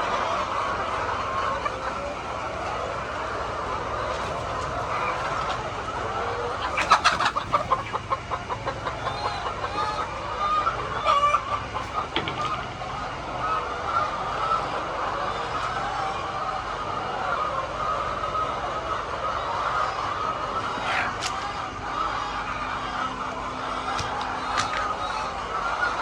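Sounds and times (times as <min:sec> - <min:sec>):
chicken loud rapid calls: 0:00.0 - 0:26.0
chickens clucking: 0:00.0 - 0:26.0.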